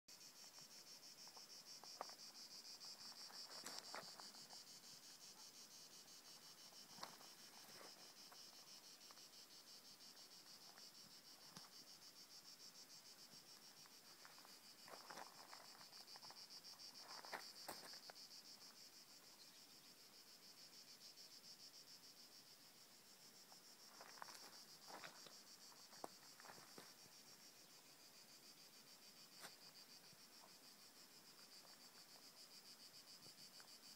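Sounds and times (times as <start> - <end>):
insects chirring: 0.1 - 33.9.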